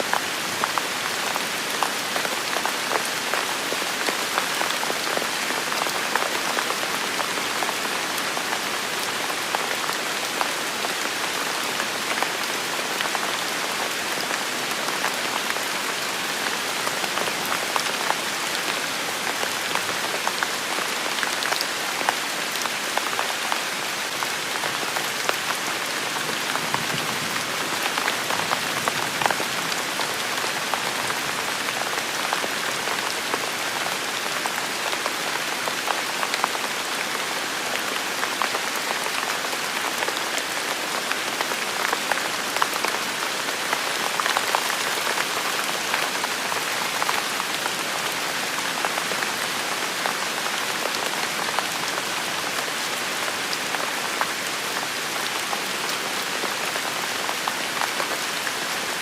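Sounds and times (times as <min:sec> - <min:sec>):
rain pattering on hard surfaces: 0:00.0 - 0:59.0.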